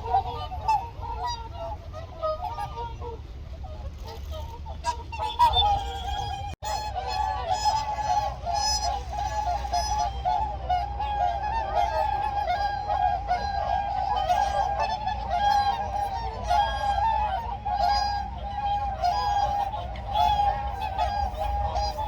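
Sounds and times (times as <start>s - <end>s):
swans honking: 0.0s - 22.0s.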